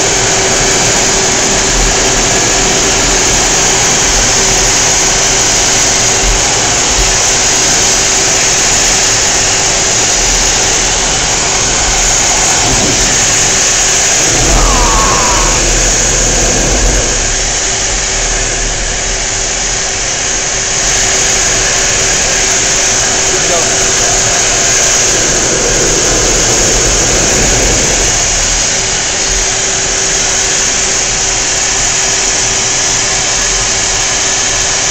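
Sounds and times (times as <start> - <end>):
steady hum: 0.0 - 28.6
jet engine and airflow noise: 0.0 - 34.9.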